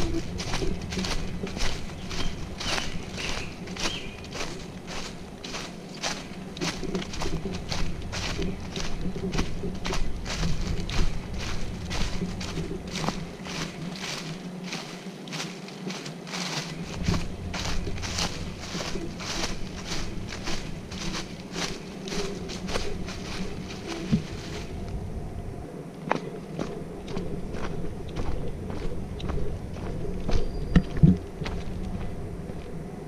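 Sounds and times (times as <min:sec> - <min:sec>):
low rumble: 0:00.0 - 0:14.7, 0:16.7 - 0:33.0
footsteps on trail: 0:00.0 - 0:33.0.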